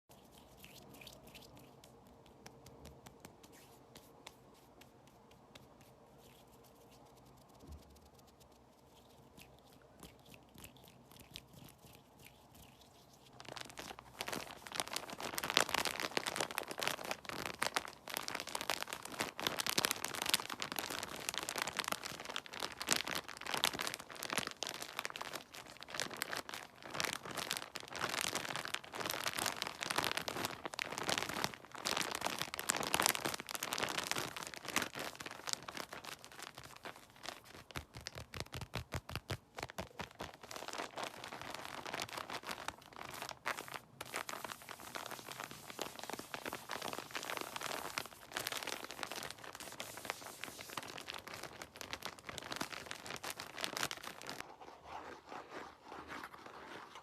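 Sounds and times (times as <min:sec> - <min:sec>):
crinkling and crunching: 0:00.1 - 0:57.0.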